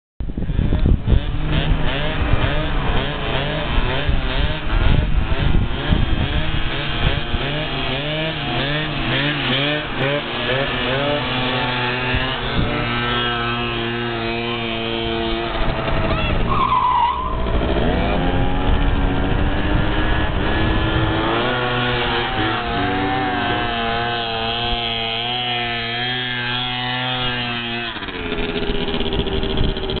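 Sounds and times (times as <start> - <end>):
motorbike engine revving: 0.2 - 30.0.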